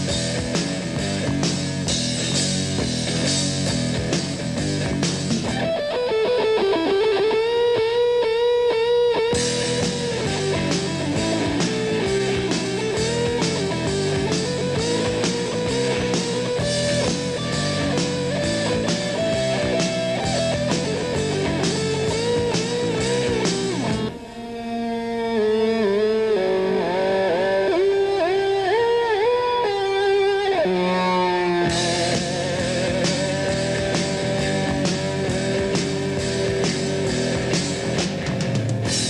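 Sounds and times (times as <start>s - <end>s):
electric guitar bent sliding notes: 0.0s - 38.2s
rock band playing: 0.0s - 39.0s.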